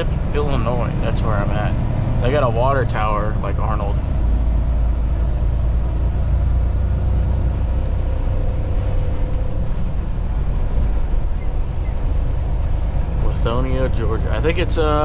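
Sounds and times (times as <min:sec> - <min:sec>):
truck engine drone from cab: 0:00.0 - 0:15.0.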